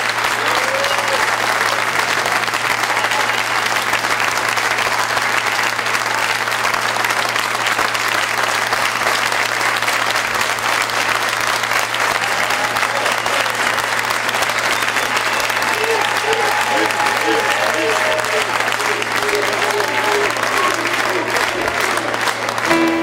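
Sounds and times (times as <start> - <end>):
large audience applauding: 0.0 - 23.0.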